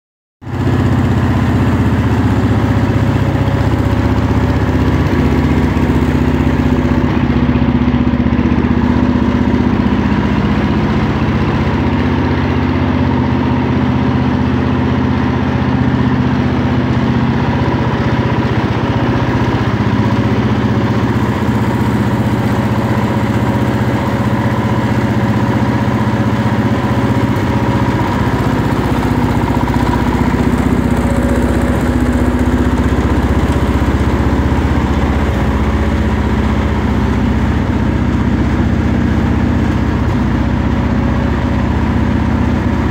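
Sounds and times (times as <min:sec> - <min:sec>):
garden tractor engine idling: 0:00.4 - 0:42.9.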